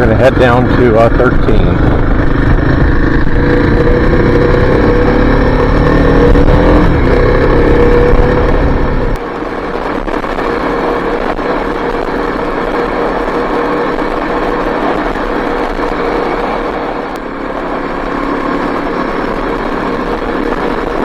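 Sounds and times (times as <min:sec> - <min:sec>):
motorcycle engine running: 0:00.0 - 0:21.0
wind rumble on microphone: 0:00.0 - 0:21.0.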